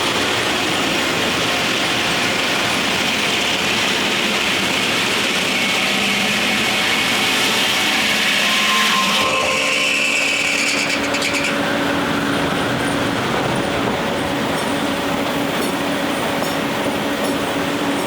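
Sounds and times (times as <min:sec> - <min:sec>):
sawmill rushing noise: 0:00.0 - 0:18.0.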